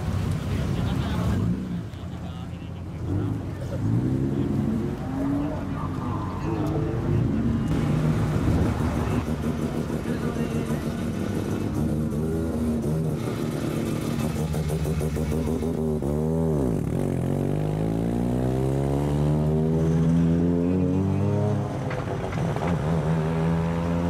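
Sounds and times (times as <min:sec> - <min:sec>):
car engines driving past: 0:00.0 - 0:24.0
car engine accelerating: 0:03.0 - 0:24.0.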